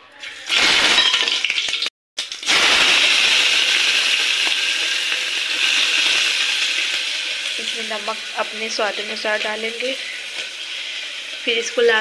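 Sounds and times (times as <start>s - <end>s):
loud sizzle of frying in oil: 0.2s - 12.0s.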